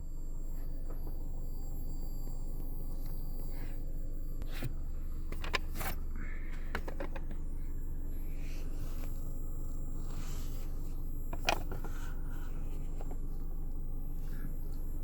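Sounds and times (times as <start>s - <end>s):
faint high whining tones: 0.0s - 15.0s
low electrical hum: 0.0s - 15.0s.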